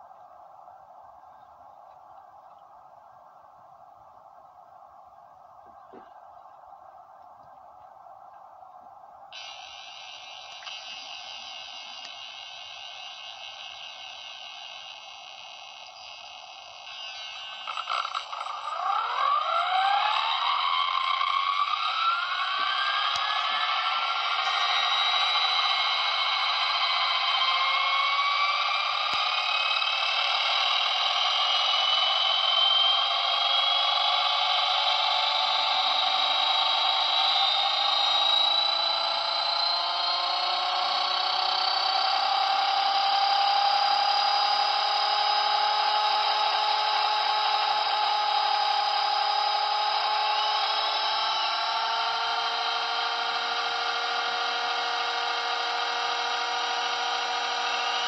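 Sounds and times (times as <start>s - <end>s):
rc helicopter rotors whining: 0.0s - 58.0s.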